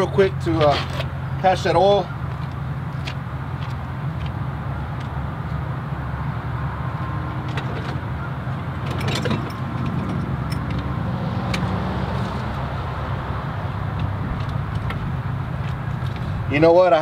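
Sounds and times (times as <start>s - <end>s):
idling vehicles rumble: 0.0s - 17.0s.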